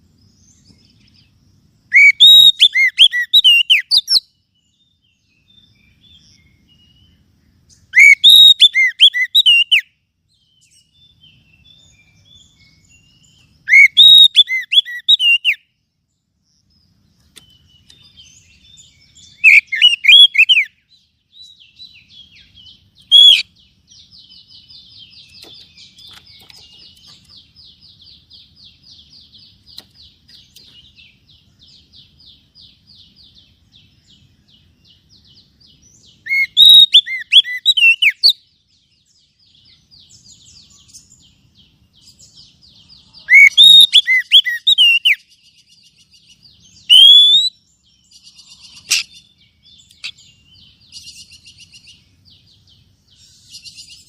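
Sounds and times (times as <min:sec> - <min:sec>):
sharp bird calls: 0:00.0 - 0:15.9, 0:16.6 - 0:54.0
bird chirping song: 0:00.0 - 0:54.0
faint fast bird trill: 0:00.0 - 0:54.0.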